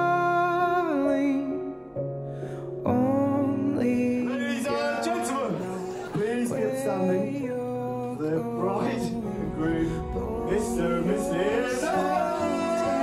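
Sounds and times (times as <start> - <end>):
song with male singer: 0.0 - 2.0, 2.8 - 13.0.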